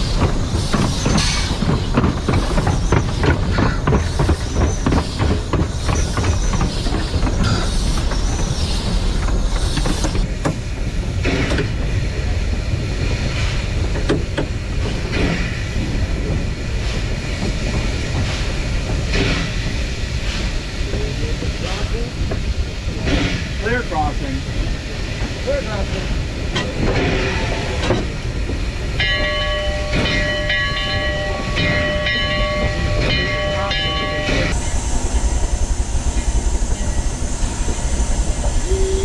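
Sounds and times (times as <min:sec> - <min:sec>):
steam train rumbling on rails: 0:00.0 - 0:39.0.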